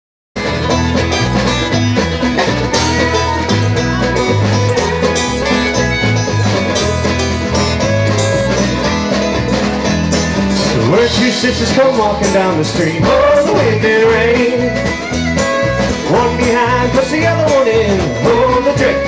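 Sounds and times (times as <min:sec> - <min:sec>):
banjo picking: 0:00.4 - 0:19.0
fiddle: 0:00.4 - 0:19.0
low bass notes: 0:00.4 - 0:19.0
strummed acoustic guitar: 0:00.4 - 0:19.0.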